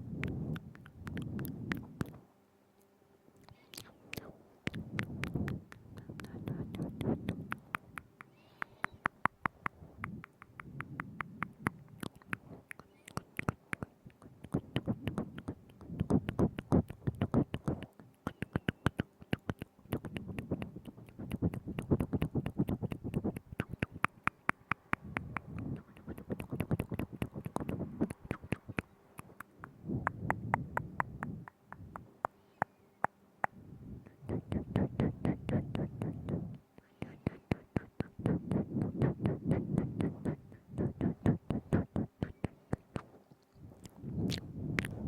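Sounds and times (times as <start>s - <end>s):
lip smacks: 0.1s - 2.2s, 3.4s - 45.0s
wet tongue clicks: 0.1s - 2.2s, 3.4s - 45.0s.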